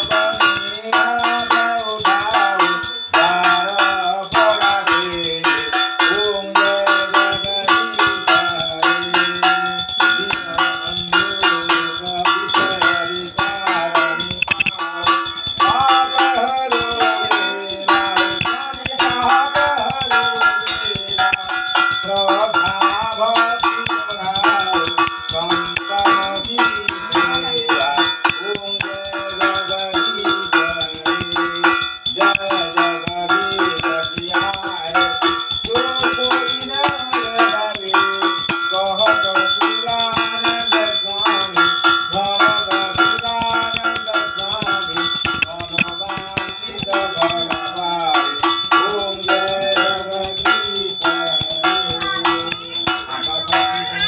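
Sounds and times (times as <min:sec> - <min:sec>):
brass hand bell ringing rapidly: 0:00.0 - 0:54.0.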